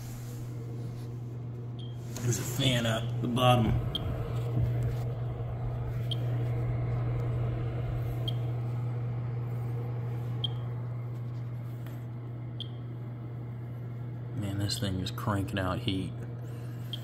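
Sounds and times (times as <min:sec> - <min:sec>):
heater fan hum: 0:00.0 - 0:17.0.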